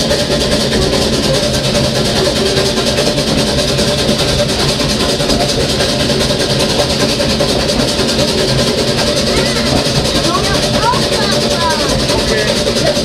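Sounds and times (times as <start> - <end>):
steam train rumble: 0.0 - 13.0.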